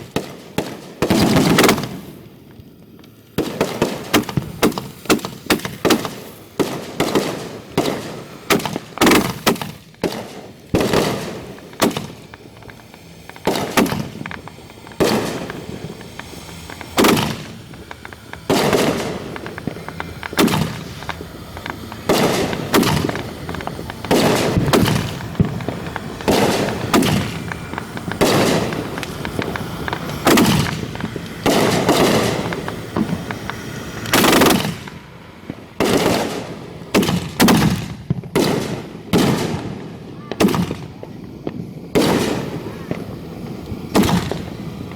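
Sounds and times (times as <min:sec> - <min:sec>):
fireworks bangs with echoing rumble: 0:00.0 - 0:44.9.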